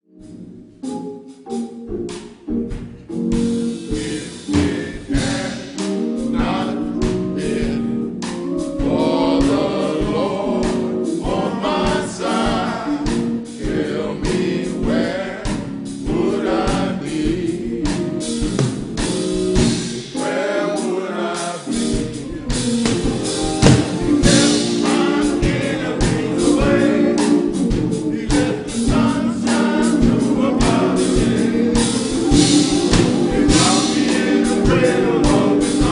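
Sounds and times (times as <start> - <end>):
instrumental accompaniment: 0.1 - 35.9
steady drum beat: 2.1 - 35.9
gospel group singing in harmony: 3.4 - 35.9.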